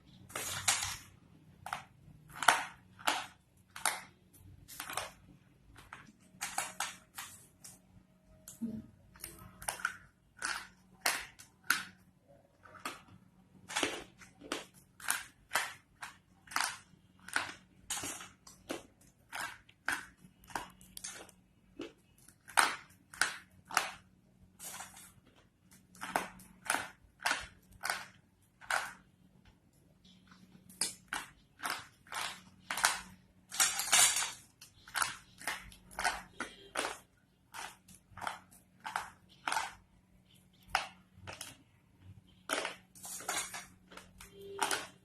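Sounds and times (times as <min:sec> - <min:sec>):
slate pencils crunching: 0:00.0 - 0:08.0, 0:09.1 - 0:45.0.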